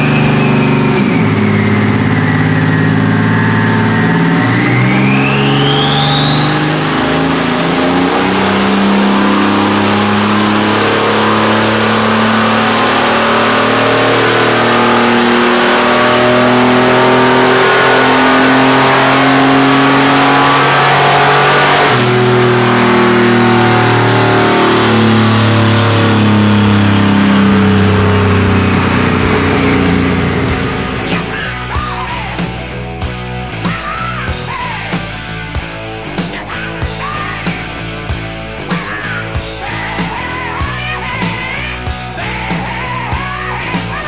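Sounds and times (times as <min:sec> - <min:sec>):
turbocharged engine whine: 0:00.0 - 0:44.0.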